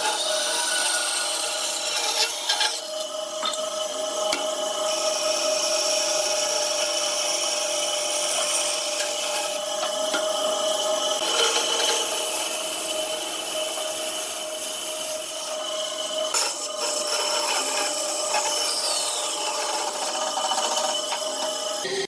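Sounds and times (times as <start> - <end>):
power tool cutting wood: 0.0 - 22.0.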